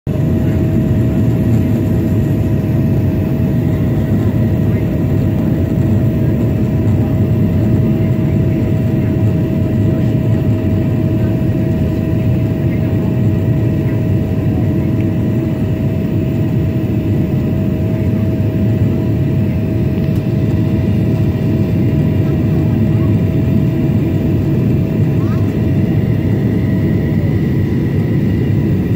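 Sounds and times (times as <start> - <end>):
airplane cabin engine and airflow noise: 0.1 - 28.9.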